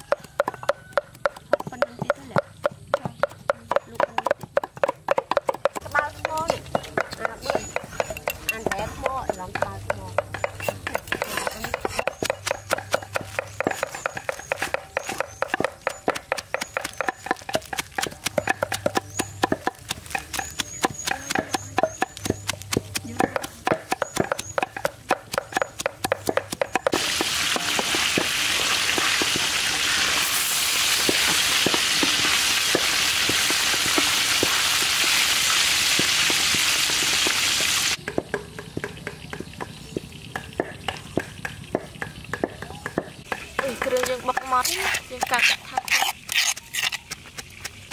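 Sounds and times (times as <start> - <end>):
cleaver chopping greens on wood: 0.0 - 29.6, 30.9 - 47.9.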